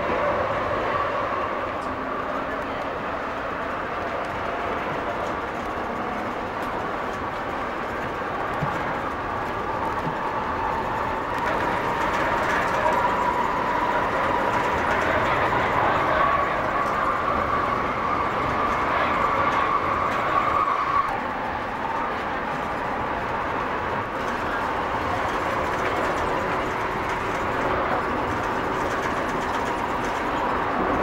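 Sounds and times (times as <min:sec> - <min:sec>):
train rolling on track: 0:00.0 - 0:31.0.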